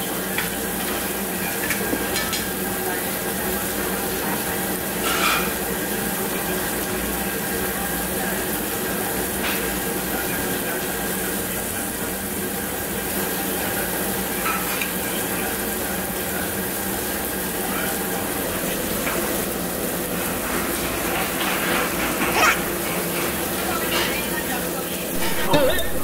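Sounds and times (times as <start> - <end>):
meat sizzling on grill: 0.0 - 26.0.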